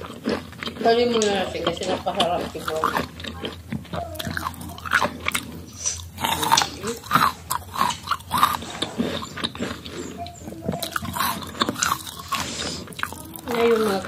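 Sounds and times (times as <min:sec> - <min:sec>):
person chewing crunchy fruit: 0:00.0 - 0:14.0
wet mouth sounds: 0:00.0 - 0:14.0.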